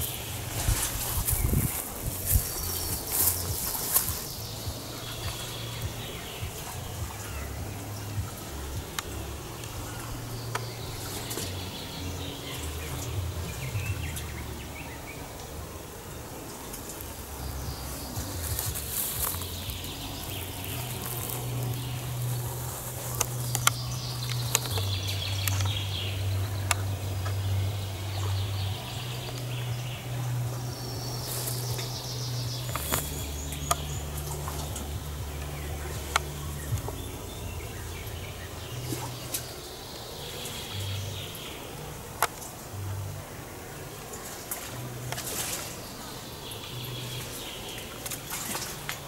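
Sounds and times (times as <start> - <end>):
distant party music bass line: 0.0 - 49.0
songbirds chirping: 0.0 - 49.0.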